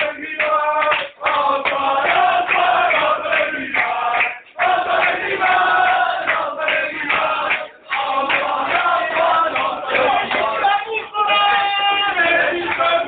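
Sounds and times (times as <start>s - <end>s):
men singing together: 0.0s - 13.0s.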